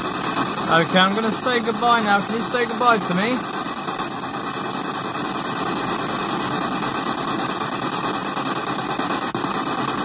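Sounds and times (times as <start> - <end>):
chopped radio static hiss: 0.0 - 10.0.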